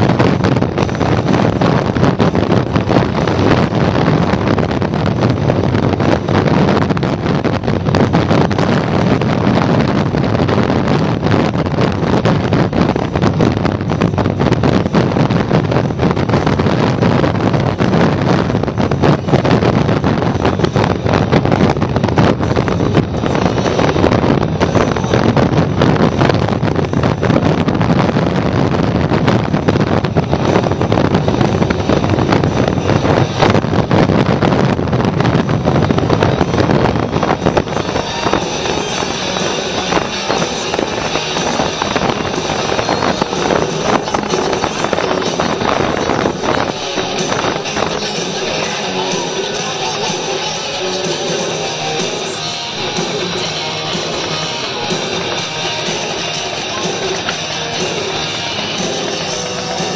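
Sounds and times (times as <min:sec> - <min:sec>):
engine drone: 0:00.0 - 0:59.9
road noise: 0:00.0 - 0:59.9
wind buffeting microphone: 0:00.0 - 0:59.9.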